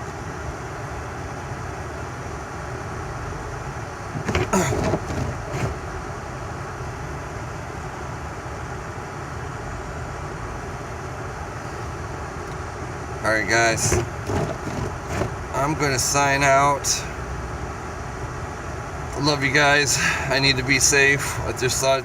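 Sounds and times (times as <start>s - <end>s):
rumble and hiss inside car: 0.0s - 22.0s.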